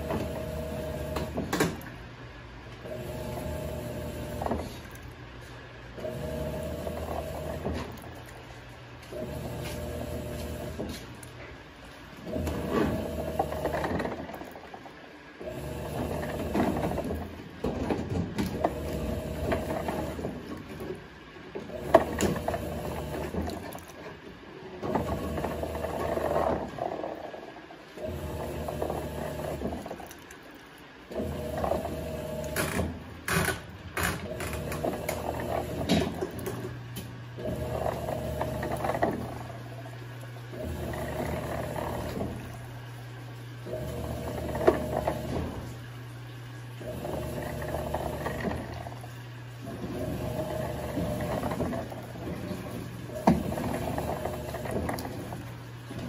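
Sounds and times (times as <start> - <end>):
washing machine motor humming: 0.0 - 56.0.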